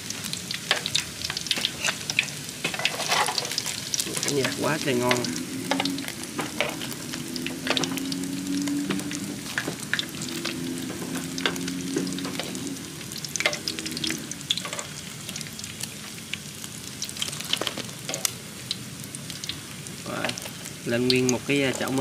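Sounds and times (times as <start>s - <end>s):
fish deep-frying in oil: 0.0s - 22.0s.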